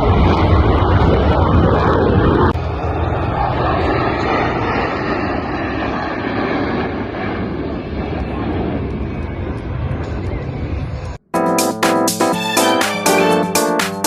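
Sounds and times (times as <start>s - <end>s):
aircraft engines rumbling: 0.0s - 11.3s.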